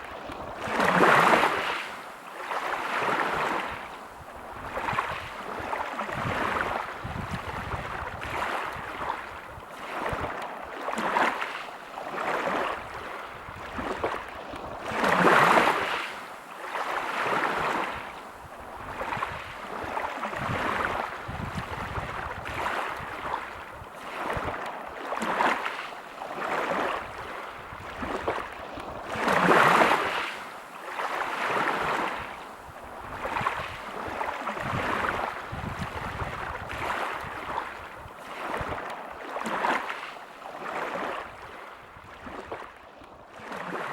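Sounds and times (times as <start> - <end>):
waves breaking on pebble beach: 0.0 - 43.9.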